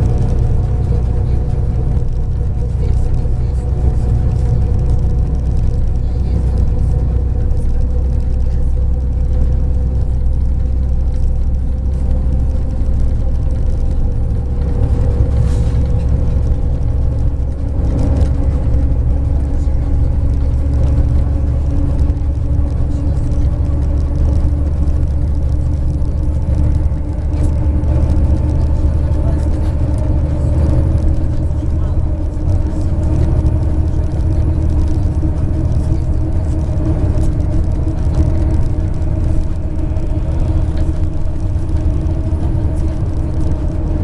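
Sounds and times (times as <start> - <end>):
bus engine and road rumble: 0.0 - 44.0
humming drivetrain: 0.0 - 44.0.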